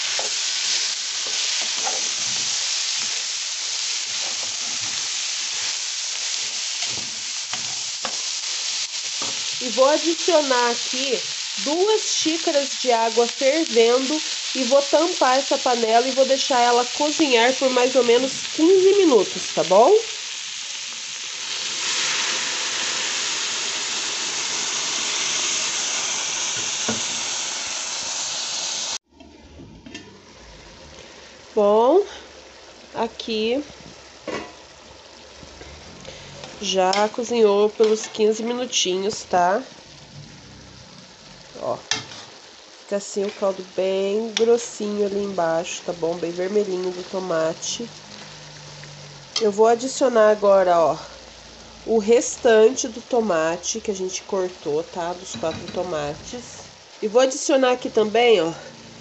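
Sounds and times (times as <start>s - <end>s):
tomatoes sizzling in hot fat: 0.0s - 29.1s, 30.0s - 59.0s.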